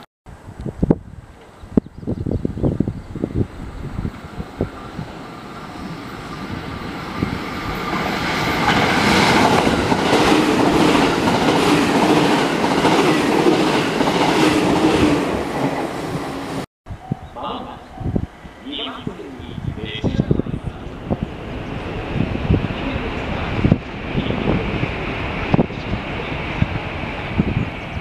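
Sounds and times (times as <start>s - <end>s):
steady train hum: 2.2s - 28.0s
train passing at speed: 2.7s - 16.7s, 17.9s - 28.0s.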